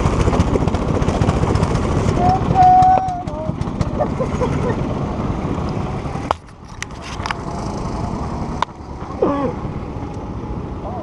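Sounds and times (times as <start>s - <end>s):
go-kart engine running: 0.0s - 11.0s.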